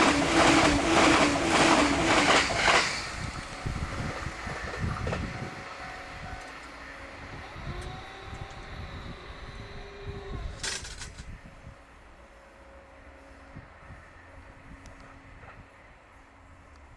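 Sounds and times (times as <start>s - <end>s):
train rumble and wheel noise: 0.0s - 16.9s.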